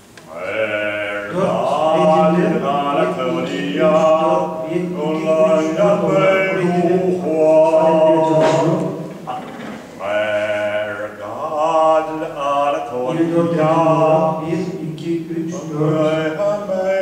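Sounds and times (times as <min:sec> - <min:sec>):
man chanting: 0:00.3 - 0:17.0.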